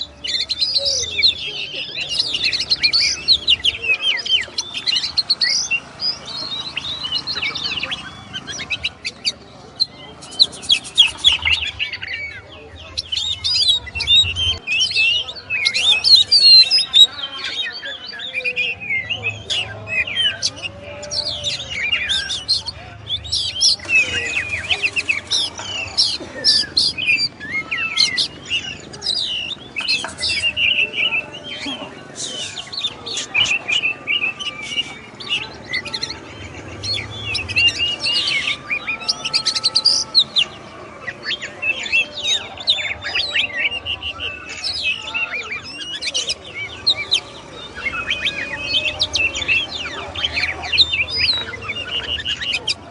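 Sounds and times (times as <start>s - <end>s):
bird singing whistles and chirps: 0.0s - 52.9s.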